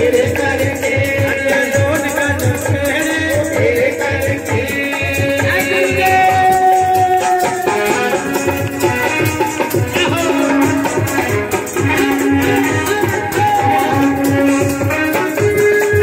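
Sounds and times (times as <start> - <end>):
hand drum beat: 0.0 - 16.0
jingling percussion: 0.0 - 16.0
person singing devotional song: 0.0 - 16.0.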